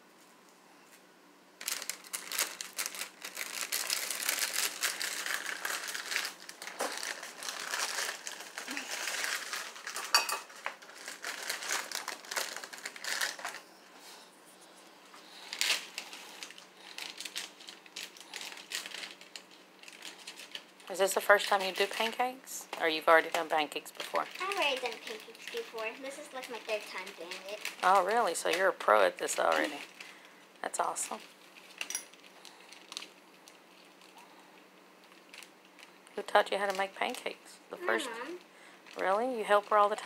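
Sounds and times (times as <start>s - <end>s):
plastic bag crinkling: 1.6s - 13.8s, 15.0s - 22.2s, 22.8s - 37.3s, 38.3s - 40.0s.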